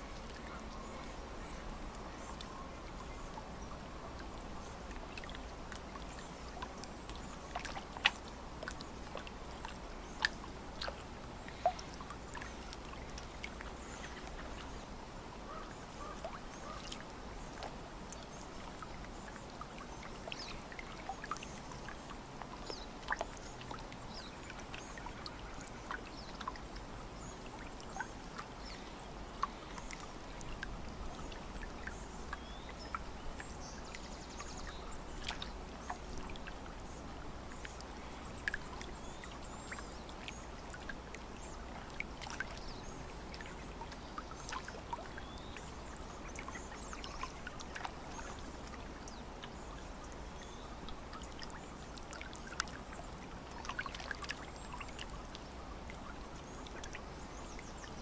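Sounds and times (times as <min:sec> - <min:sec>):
lake water lapping on shore: 0:03.9 - 0:58.0.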